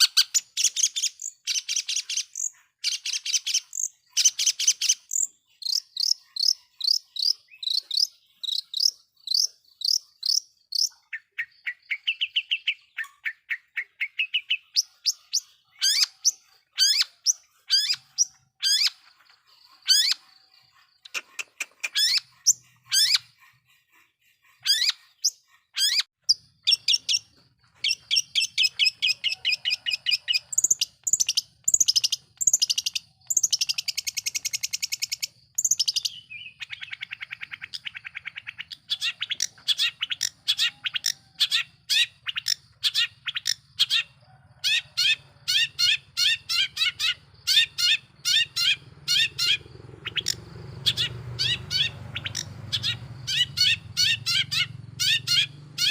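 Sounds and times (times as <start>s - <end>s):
bird singing fast varied song: 0.0s - 55.9s.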